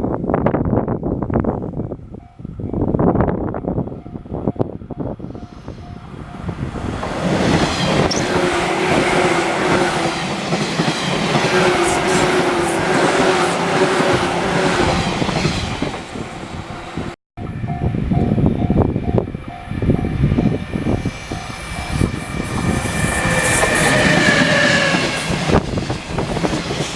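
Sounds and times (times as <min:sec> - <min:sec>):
train wheels on rails: 0:02.7 - 0:26.9.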